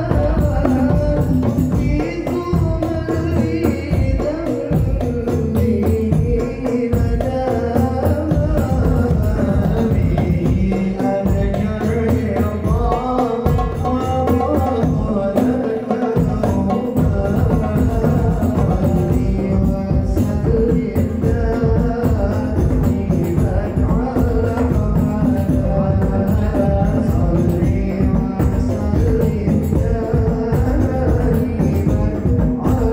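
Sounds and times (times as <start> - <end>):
frame drums and bass drums: 0.0 - 32.9.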